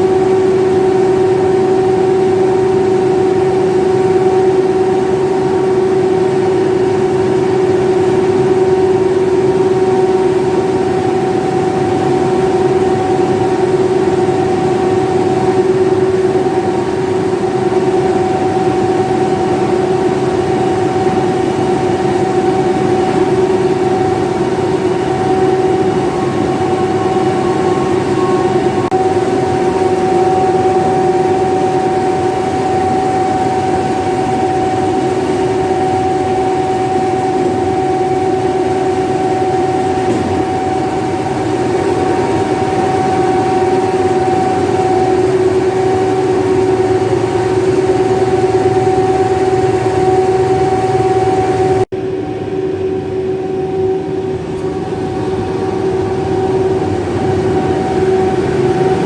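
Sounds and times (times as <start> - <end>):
loud steady hum: 0.0 - 59.0.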